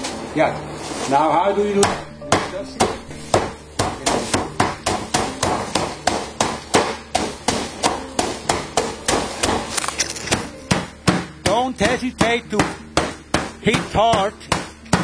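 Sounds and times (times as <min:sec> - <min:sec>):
hand tool knocking on comb: 0:01.8 - 0:09.7, 0:10.3 - 0:15.0.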